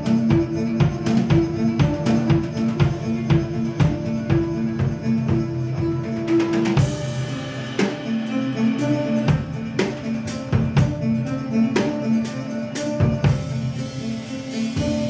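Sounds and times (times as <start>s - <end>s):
drum hits: 0.0s - 14.2s.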